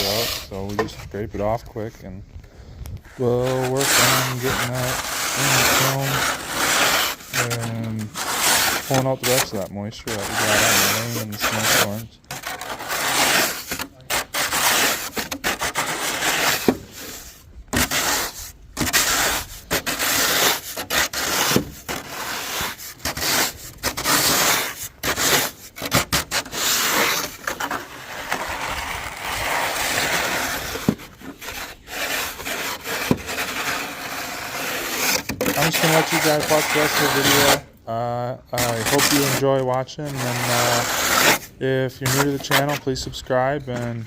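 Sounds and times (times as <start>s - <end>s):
snow scraped off wooden boards: 0.0s - 1.8s, 3.0s - 37.8s, 38.5s - 44.0s.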